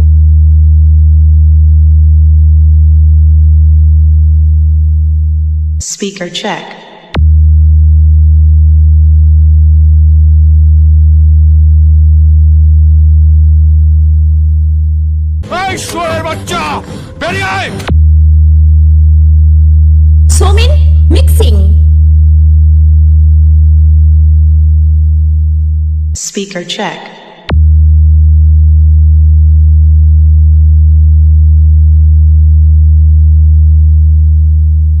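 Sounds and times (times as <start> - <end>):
deep sub-bass tone: 0.0 - 5.8, 7.2 - 26.2, 27.5 - 35.0.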